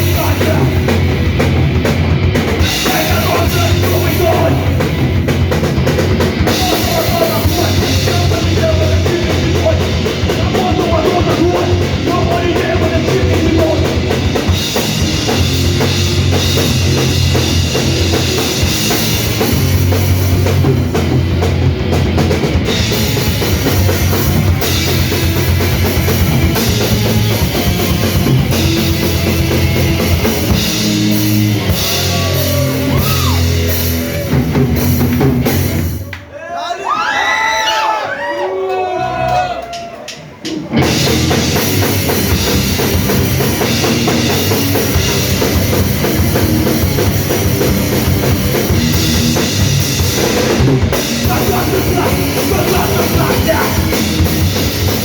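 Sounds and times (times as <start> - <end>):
live punk band playing: 0.0 - 37.5, 39.0 - 55.0.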